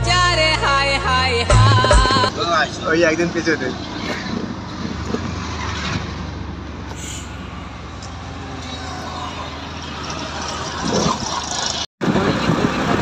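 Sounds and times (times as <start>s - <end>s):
vehicle engine drone: 0.0s - 13.0s
road noise inside cabin: 1.8s - 13.0s.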